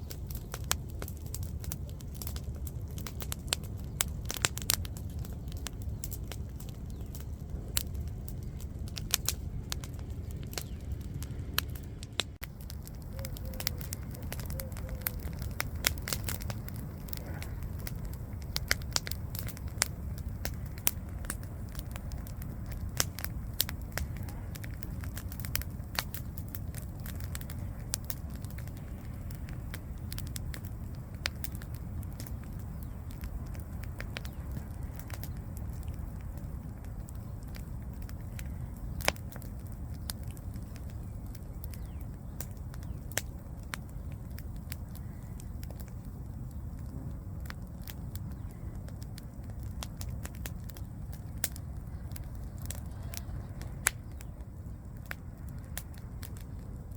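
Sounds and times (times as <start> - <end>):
low rush of flames: 0.0 - 56.9
wood popping and crackling: 0.0 - 56.9.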